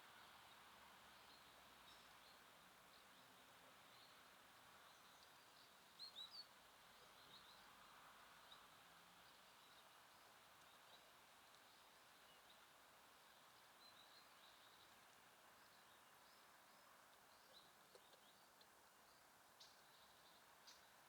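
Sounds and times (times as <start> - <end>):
songbirds chirping: 0.0 - 21.0
steady outdoor hiss: 0.0 - 21.0.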